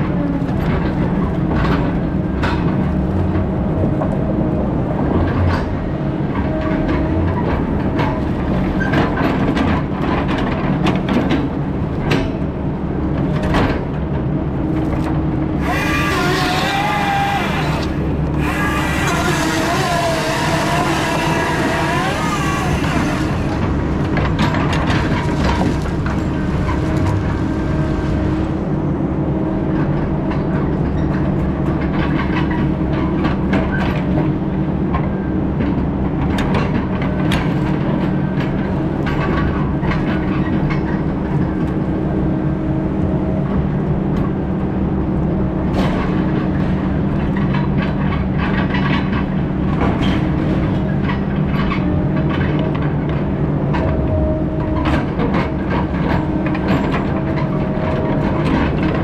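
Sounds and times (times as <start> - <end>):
diesel logging machine running: 0.0 - 59.0.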